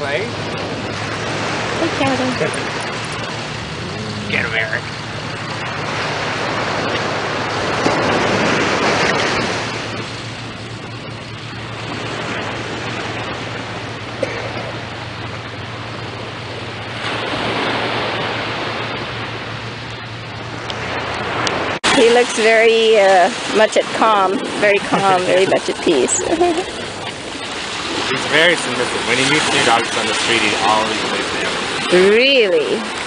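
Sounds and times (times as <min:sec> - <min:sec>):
steady low hum: 0:00.0 - 0:32.1
ocean surf washing ashore: 0:00.0 - 0:33.0.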